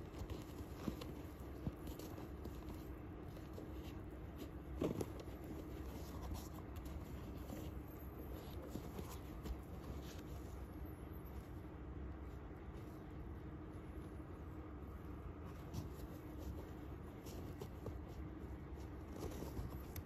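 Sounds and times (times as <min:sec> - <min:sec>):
low steady hum: 0:00.0 - 0:20.0
rustling and scraping of shoe: 0:00.0 - 0:20.0.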